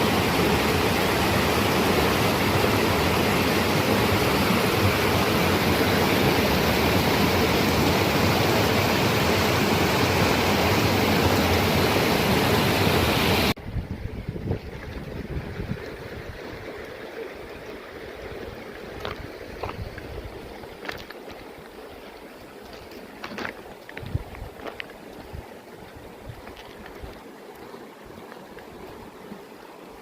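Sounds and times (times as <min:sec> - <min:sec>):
rushing water: 0:00.0 - 0:30.0
stream burbling: 0:00.0 - 0:30.0.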